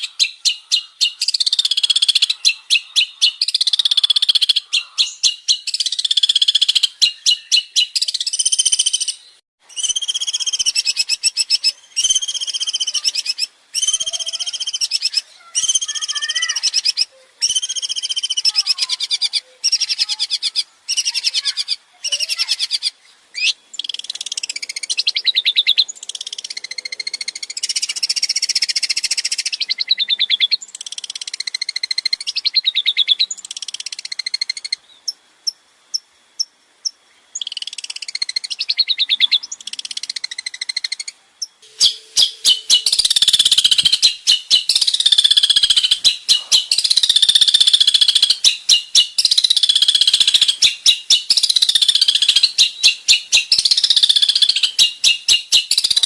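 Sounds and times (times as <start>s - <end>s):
bird singing buzzy rattling song: 0.0s - 56.0s.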